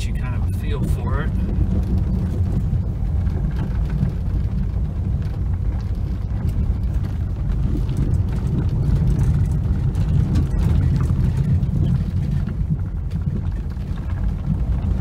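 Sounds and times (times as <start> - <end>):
car engine rumbling: 0.0 - 15.0
tyre and road noise: 0.0 - 15.0.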